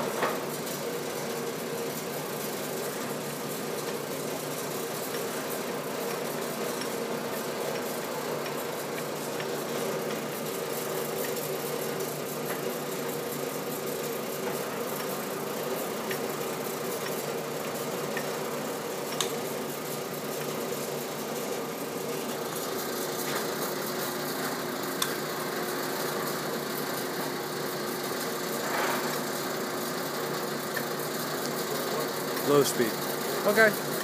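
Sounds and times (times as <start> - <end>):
lathe running: 0.0 - 34.0.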